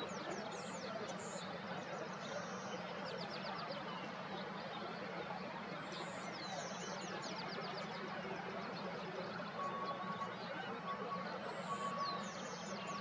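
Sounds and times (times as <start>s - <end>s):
steady background noise: 0.0s - 13.0s
wild birds singing: 0.0s - 13.0s.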